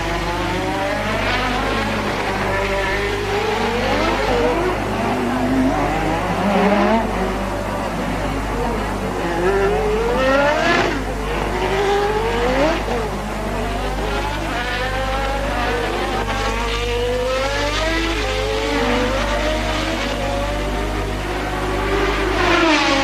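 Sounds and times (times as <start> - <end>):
race car engines accelerating: 0.0 - 23.0.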